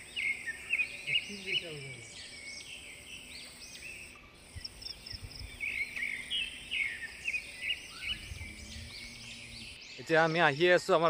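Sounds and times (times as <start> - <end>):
birds chirping: 0.0 - 11.0
insects chirping: 0.0 - 11.0.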